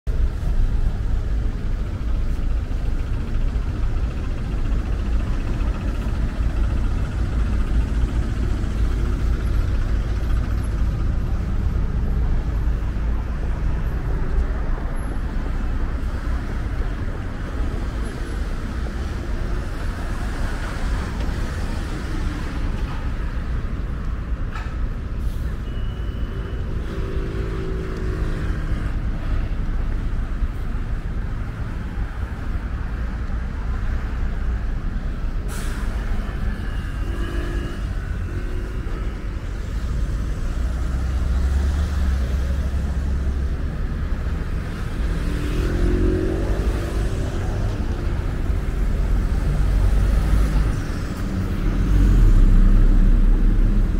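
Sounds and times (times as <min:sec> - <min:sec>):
city street traffic rumble: 0:00.0 - 0:53.9.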